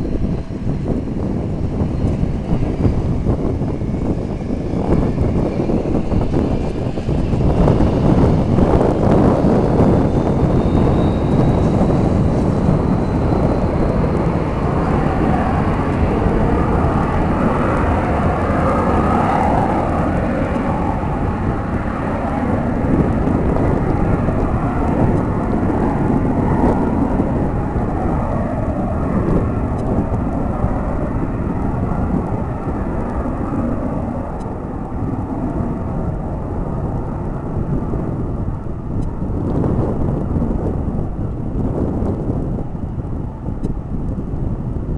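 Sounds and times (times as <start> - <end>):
faint high turbine whine: 0.0 - 44.9
jet engines deep growl: 0.0 - 44.9.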